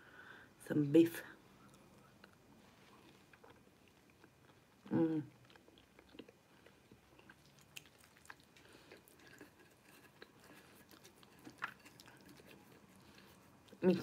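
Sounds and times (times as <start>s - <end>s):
faint chewing: 1.6s - 14.0s.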